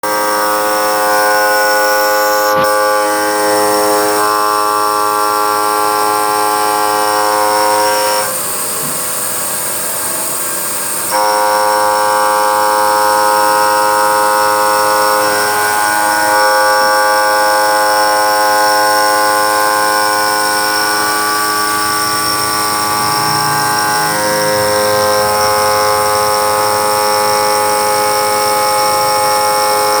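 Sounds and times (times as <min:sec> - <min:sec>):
milling machine whining: 0:00.0 - 0:30.0
rough machine noise: 0:00.0 - 0:30.0.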